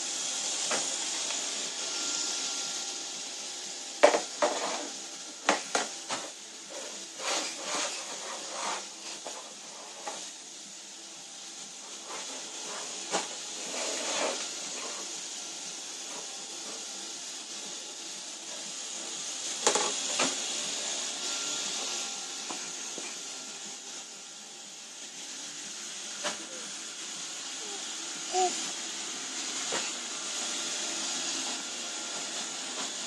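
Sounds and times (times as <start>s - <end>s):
robot vacuum cleaner hissing: 0.0s - 33.0s.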